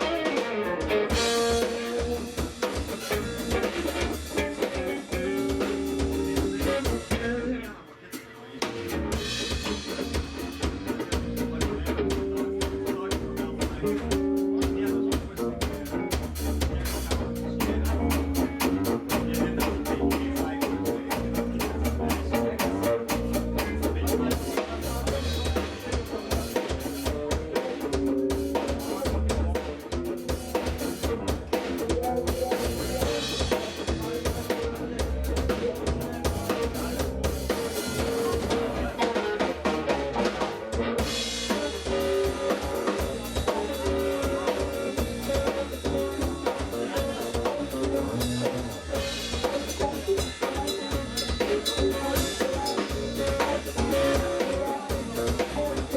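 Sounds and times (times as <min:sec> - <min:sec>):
bass line: 0:00.0 - 0:07.6, 0:08.8 - 0:55.9
jazz-funk band playing: 0:00.0 - 0:07.7, 0:08.6 - 0:55.9
drum kit: 0:00.0 - 0:55.9.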